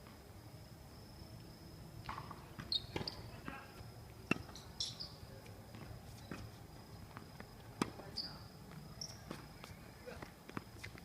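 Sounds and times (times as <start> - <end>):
insects chirring: 0.1 - 11.0.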